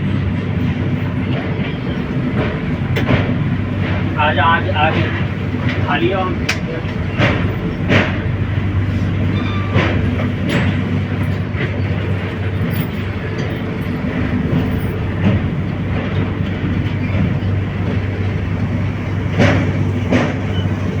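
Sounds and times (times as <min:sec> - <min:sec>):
constant low hum: 0:00.0 - 0:21.0
moving vehicle rumble: 0:00.0 - 0:21.0.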